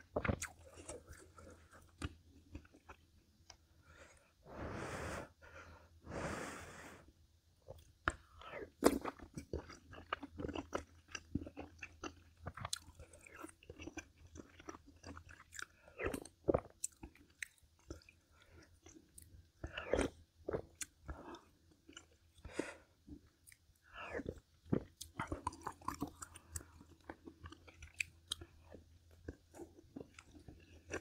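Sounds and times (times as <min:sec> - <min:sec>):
person chewing crunchy food: 0:00.0 - 0:04.3, 0:07.7 - 0:31.0.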